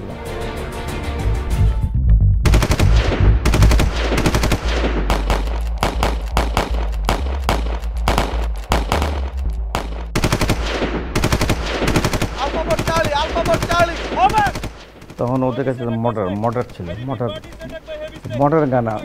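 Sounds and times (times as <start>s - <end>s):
rifle gunfire volleys: 2.5s - 19.0s.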